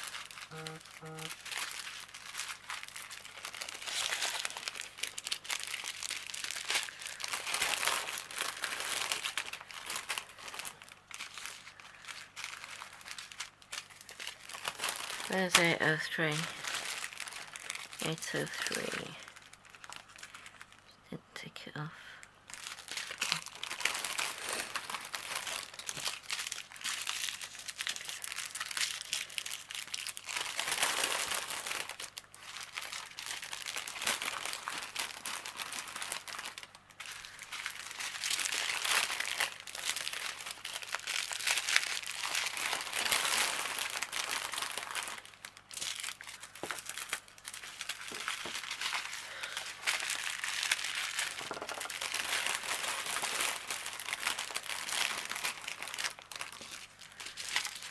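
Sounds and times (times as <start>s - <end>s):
plastic bags crinkling: 0.0s - 21.0s, 21.7s - 57.9s.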